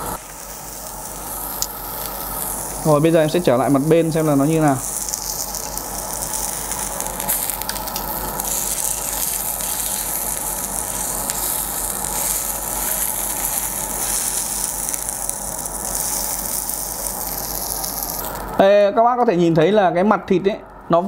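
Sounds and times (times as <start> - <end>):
pork sizzling on a grill plate: 0.0 - 18.6.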